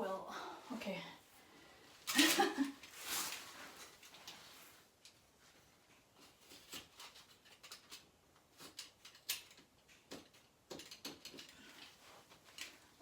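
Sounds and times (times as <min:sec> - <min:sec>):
wallcovering rustling and clicking: 0:01.8 - 0:13.0.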